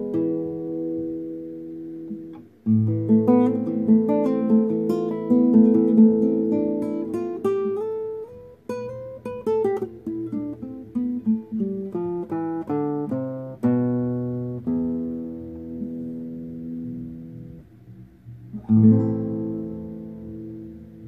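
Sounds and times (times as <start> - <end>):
fingerstyle classical guitar: 0.0 - 21.0.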